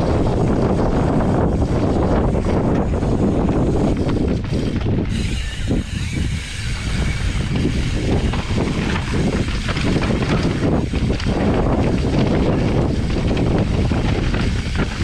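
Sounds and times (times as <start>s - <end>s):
bike knocking and rattling: 0.0s - 15.0s
wind buffeting microphone: 0.0s - 15.0s.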